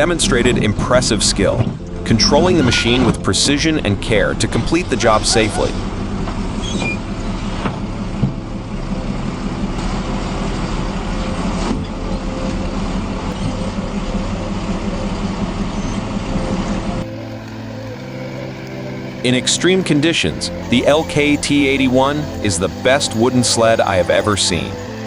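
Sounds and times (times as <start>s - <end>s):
heavy vehicle engine running: 0.0s - 25.0s.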